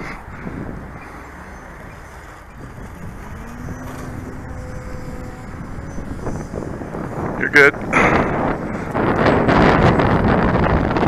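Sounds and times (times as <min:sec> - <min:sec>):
wind buffeting microphone: 0:00.0 - 0:11.0
distant model plane motor hum: 0:00.2 - 0:11.0.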